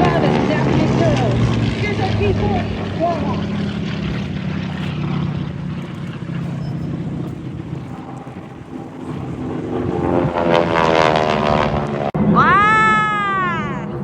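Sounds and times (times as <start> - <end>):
wind on microphone: 0.0 - 12.4
propeller aircraft engine droning: 0.0 - 14.0.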